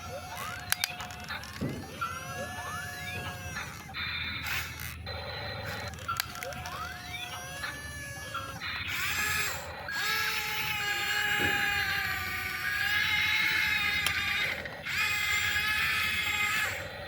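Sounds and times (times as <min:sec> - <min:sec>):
toy gear motors whining: 0:00.0 - 0:17.0.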